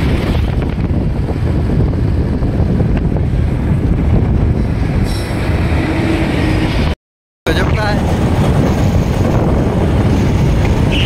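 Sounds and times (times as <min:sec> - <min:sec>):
road noise: 0:00.0 - 0:11.0
wind buffeting the microphone: 0:00.0 - 0:11.0.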